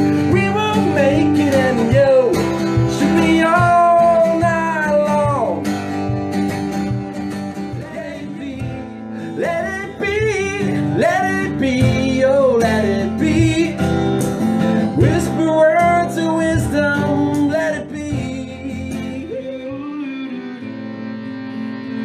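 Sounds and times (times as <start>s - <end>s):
man singing: 0.0s - 5.9s, 7.7s - 20.8s
plucked classical guitar: 0.0s - 22.0s
strummed acoustic guitar: 0.0s - 22.0s.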